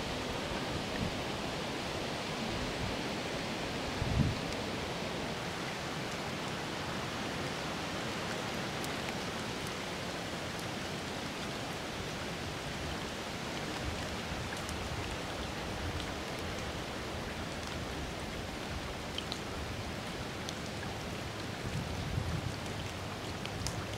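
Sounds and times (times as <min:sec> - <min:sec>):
rushing floodwater: 0:00.0 - 0:23.9.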